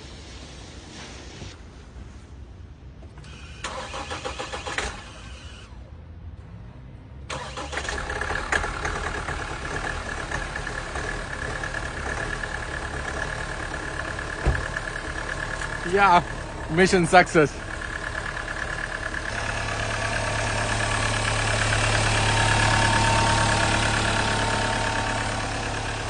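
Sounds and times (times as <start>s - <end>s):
engine idling with high whine: 3.2s - 6.1s, 7.3s - 26.0s
engine cranking: 3.3s - 5.6s, 7.3s - 26.0s.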